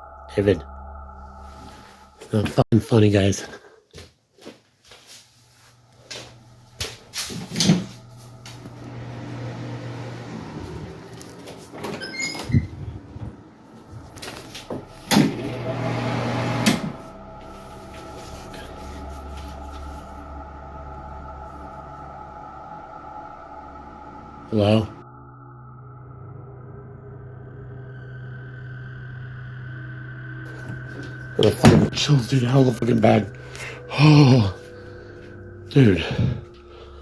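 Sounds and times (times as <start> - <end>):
low drone with high tone: 0.0 - 2.6, 5.7 - 37.0
low steady hum: 0.0 - 2.6, 5.4 - 37.0.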